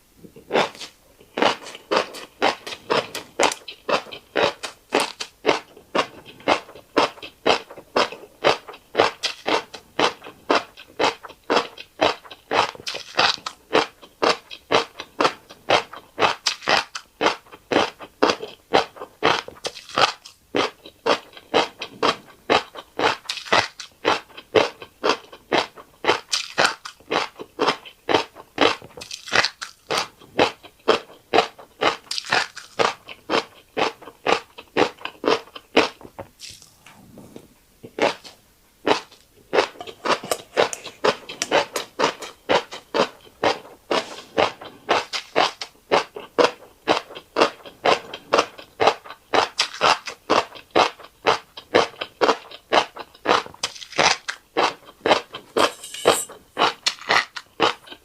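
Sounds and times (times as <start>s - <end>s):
crunchy chewing: 0.2s - 58.0s.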